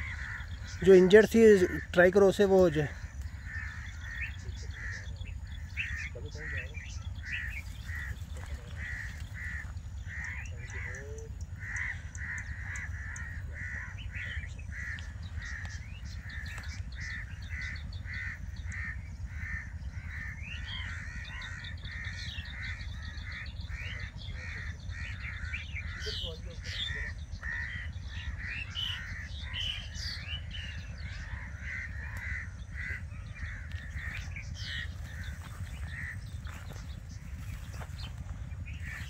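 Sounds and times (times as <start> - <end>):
repeated bird call: 0.0 - 39.0
steady low rumble: 0.0 - 39.0.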